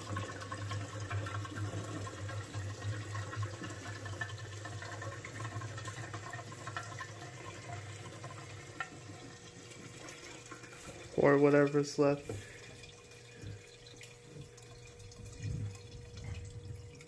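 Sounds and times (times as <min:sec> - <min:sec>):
gasoline pouring into fuel tank: 0:00.0 - 0:17.0.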